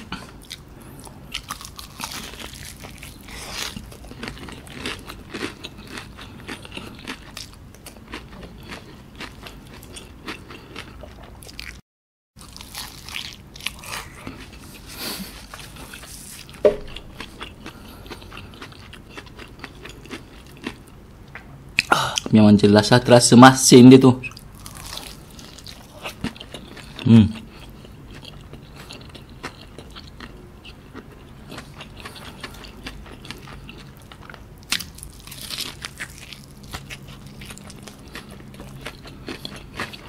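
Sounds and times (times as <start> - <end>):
chewing crispy fried chicken: 0.0 - 11.8, 12.4 - 22.3, 24.2 - 40.0.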